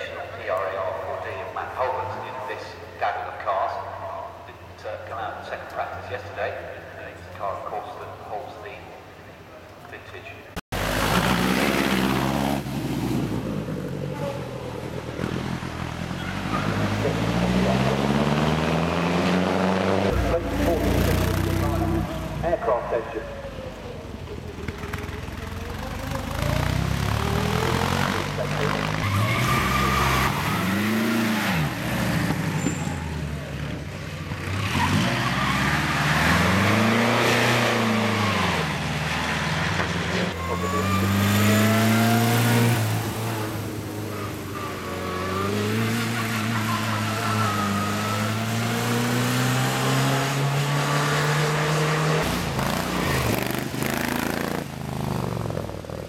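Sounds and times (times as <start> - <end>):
racing car engines accelerating: 10.8 - 56.0.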